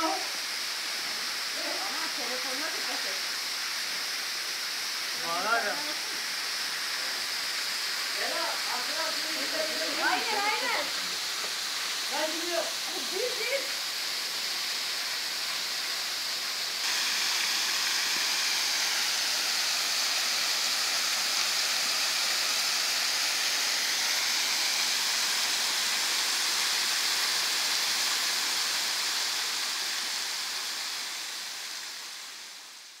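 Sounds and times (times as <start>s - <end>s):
waterfall spray on rocks: 0.0s - 33.0s.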